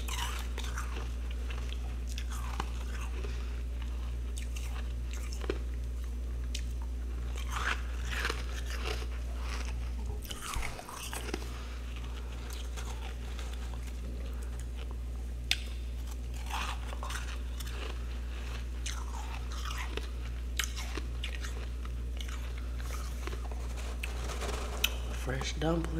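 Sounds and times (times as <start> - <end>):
freezer frost crunching: 0.0 - 25.9
steady low hum: 0.0 - 25.9.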